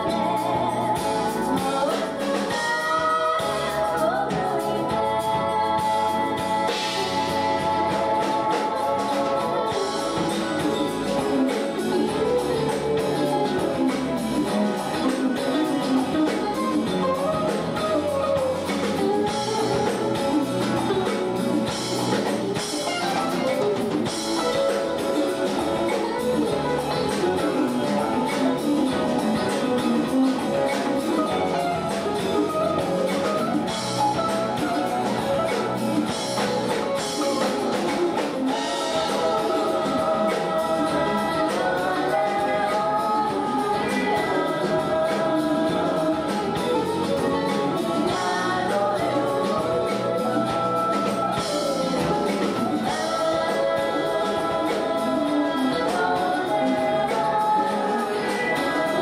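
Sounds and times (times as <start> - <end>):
live pop band playing: 0.0 - 59.0
vocalists singing together: 0.0 - 59.0.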